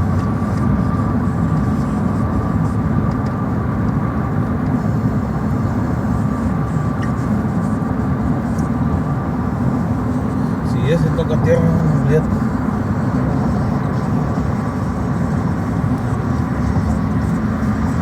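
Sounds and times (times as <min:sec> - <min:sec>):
faint constant whine: 0:00.0 - 0:18.0
vehicle engine rumble: 0:00.0 - 0:18.0.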